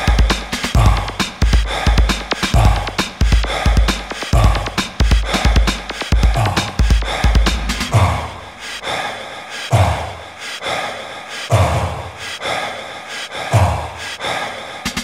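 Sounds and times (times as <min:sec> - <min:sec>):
breathy swish: 0:01.5 - 0:15.0.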